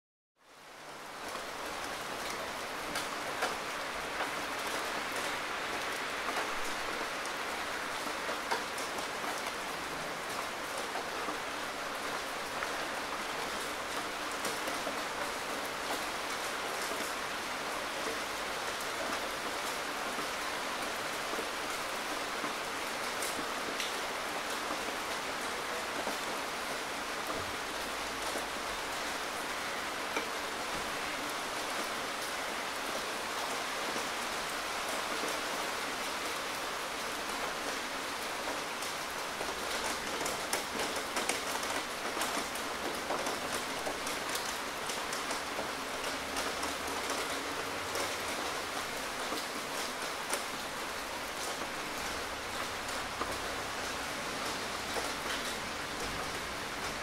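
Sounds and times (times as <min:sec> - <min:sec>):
steady rain hiss: 0:00.4 - 0:57.0.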